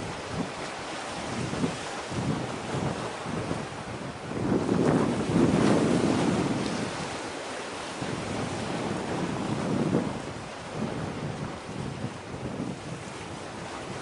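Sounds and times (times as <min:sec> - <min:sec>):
rush of wind and sea: 0:00.0 - 0:14.0
wind buffeting microphone: 0:00.0 - 0:14.0.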